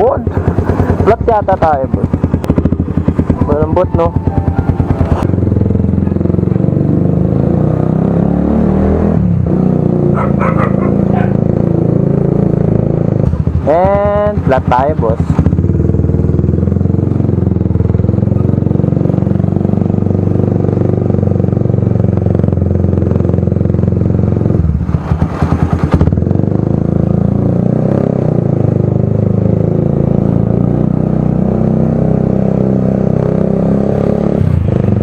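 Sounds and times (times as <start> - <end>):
loud motorcycle exhaust: 0.0 - 35.0.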